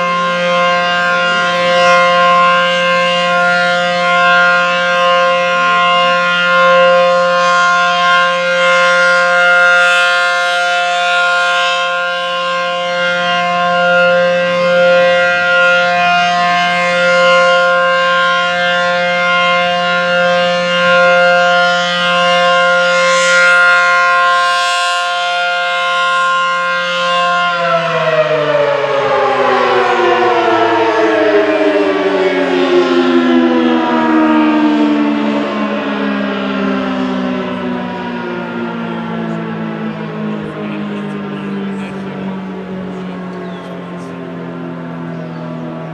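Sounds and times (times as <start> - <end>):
warning siren sounding a chord: 0.0 - 45.9.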